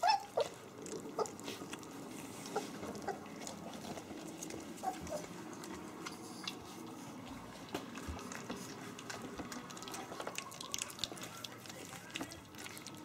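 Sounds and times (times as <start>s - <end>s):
puppies lapping food: 0.0s - 13.0s.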